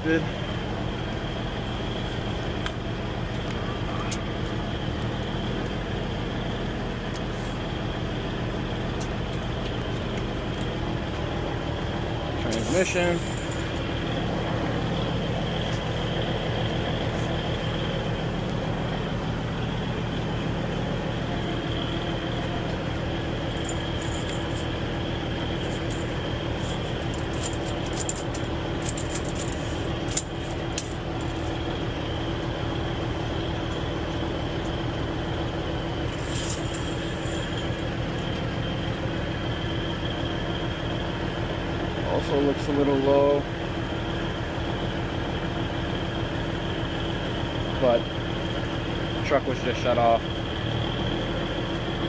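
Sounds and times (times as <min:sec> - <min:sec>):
vehicle engines droning: 0:00.0 - 0:52.0.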